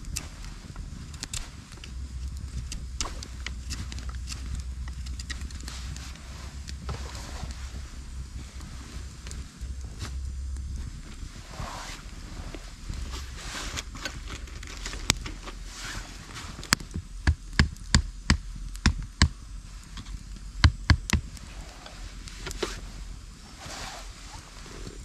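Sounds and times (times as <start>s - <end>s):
quiet rustling: 0.0s - 17.0s, 21.3s - 25.0s.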